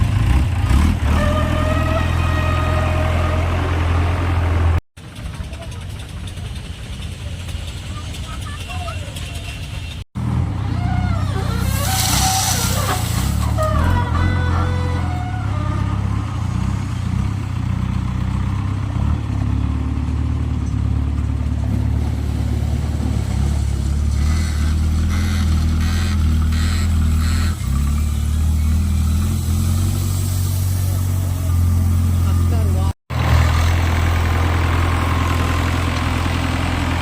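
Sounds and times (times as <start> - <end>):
backhoe diesel engine running: 0.1 - 37.0.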